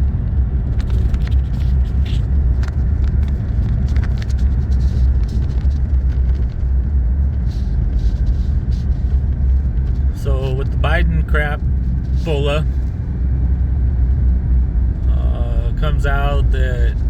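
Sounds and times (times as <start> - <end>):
engine and tyres rumbling: 0.0 - 17.0.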